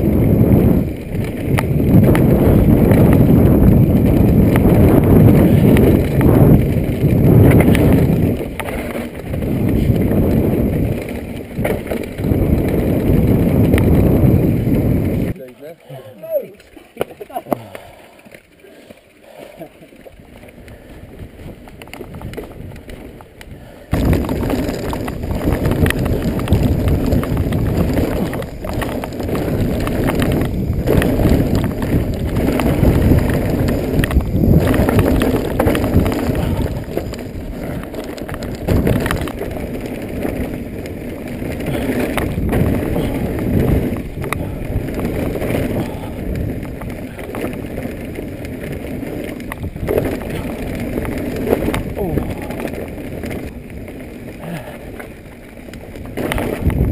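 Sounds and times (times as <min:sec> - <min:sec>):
wind buffeting microphone: 0:00.0 - 0:15.4, 0:20.2 - 0:56.9
bike tyres and frame rattling: 0:00.0 - 0:56.9
constant rumble: 0:00.0 - 0:56.9.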